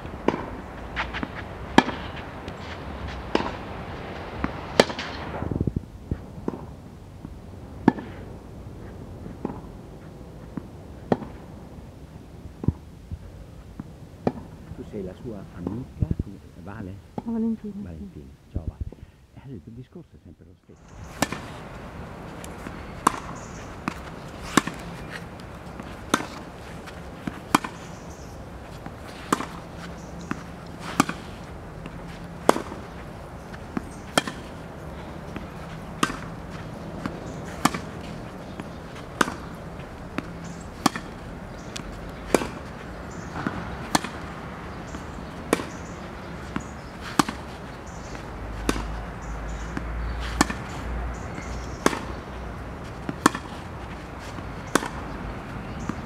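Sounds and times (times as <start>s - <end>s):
tennis ball struck by rackets: 0.0s - 5.3s, 6.1s - 8.3s, 9.2s - 11.5s, 12.6s - 12.8s, 13.8s - 14.6s, 20.8s - 56.0s.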